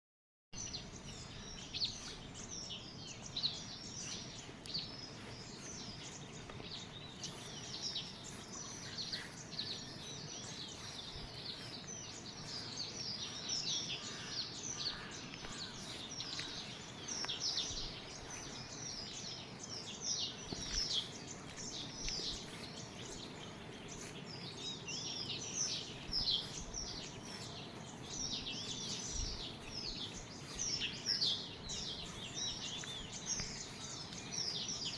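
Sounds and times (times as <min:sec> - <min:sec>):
low background noise: 0:00.6 - 0:34.9
small birds chirping: 0:00.6 - 0:34.9.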